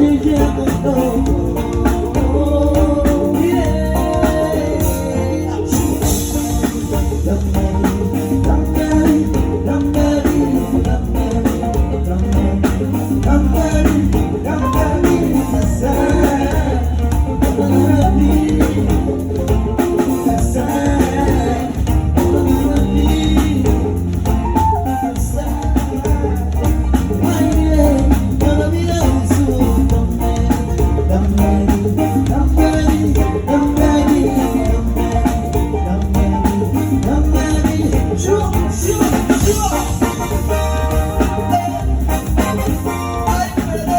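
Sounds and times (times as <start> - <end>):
bass line: 0.0 - 43.9
drums: 0.0 - 43.9
live band playing: 0.0 - 43.9.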